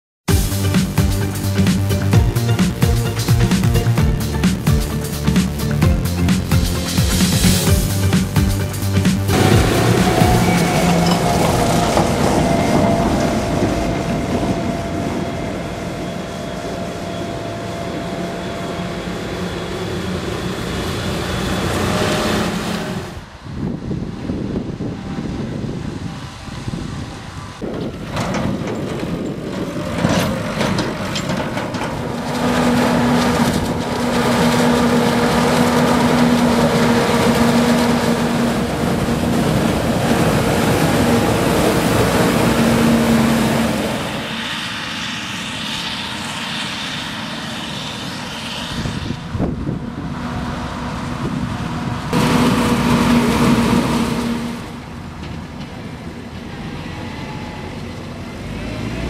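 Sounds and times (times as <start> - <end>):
farm machinery humming: 0.3 - 59.0.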